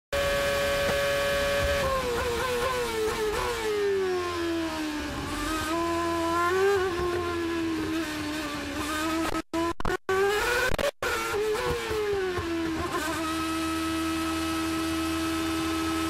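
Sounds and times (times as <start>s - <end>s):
racing car engine revving: 0.2s - 16.0s.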